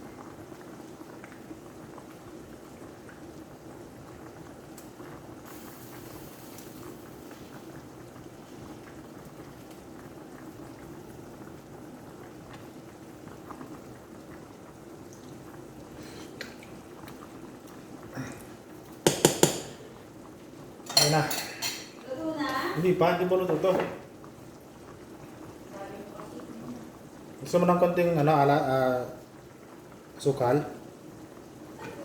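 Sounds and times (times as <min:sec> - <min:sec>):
pot simmering and bubbling: 0:00.0 - 0:32.0.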